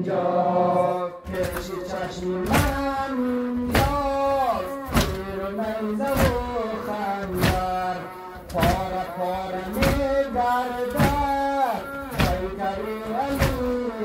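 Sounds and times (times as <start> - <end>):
person chanting a lament: 0.0 - 14.0
mourners slapping chests: 1.2 - 14.0.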